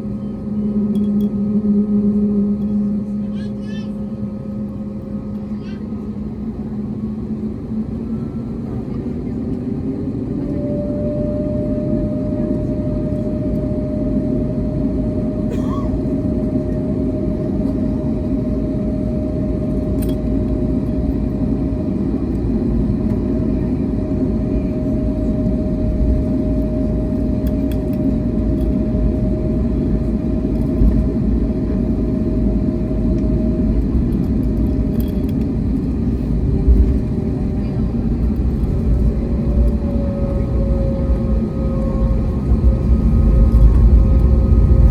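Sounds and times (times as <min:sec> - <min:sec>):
aircraft engine rumble: 0:00.0 - 0:44.9
thin steady whine: 0:00.0 - 0:44.9.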